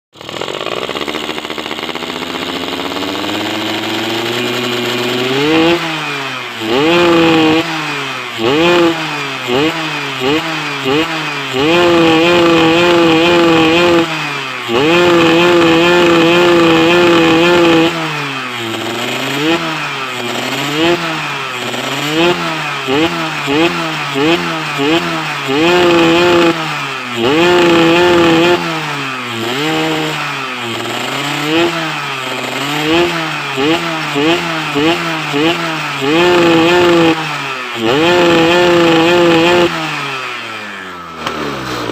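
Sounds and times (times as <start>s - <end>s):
two-stroke engine revving: 0.1s - 41.9s.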